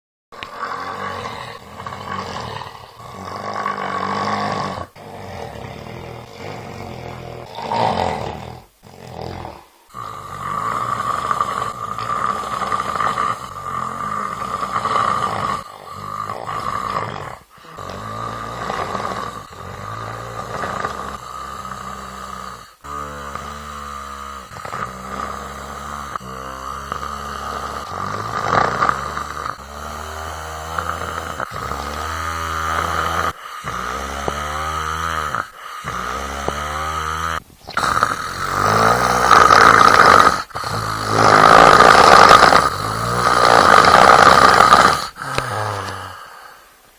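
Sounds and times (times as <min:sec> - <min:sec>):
person snoring: 0:00.4 - 0:46.8.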